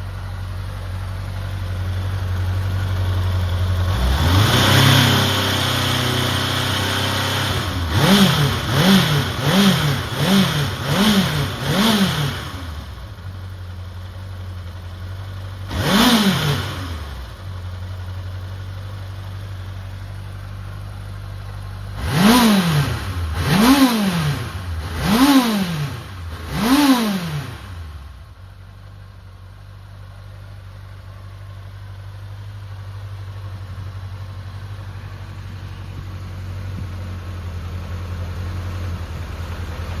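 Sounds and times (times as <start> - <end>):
motorcycle engine idling and revving: 0.0 - 40.0.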